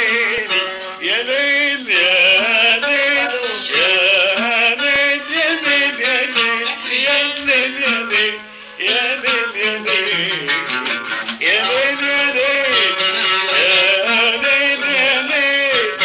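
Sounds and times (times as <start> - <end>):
man singing melismatic phrases: 0.0 - 16.0
qanun: 0.0 - 16.0.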